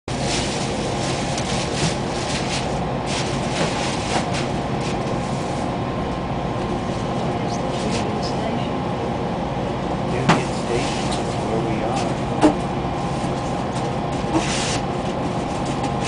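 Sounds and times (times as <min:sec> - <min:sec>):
train rumbling inside carriage: 0:00.1 - 0:16.0.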